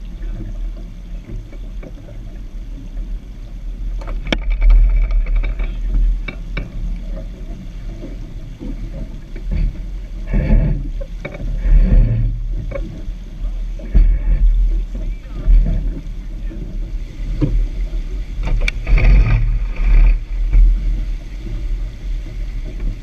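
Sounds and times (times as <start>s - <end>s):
water rushing along boat hull: 0.0s - 23.0s
wind buffeting microphone: 0.0s - 23.0s.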